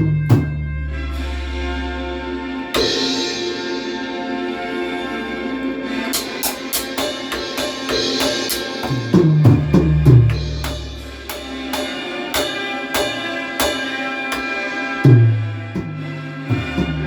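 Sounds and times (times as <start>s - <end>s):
drum kit playing: 0.0s - 17.0s
orchestral music: 0.0s - 17.0s.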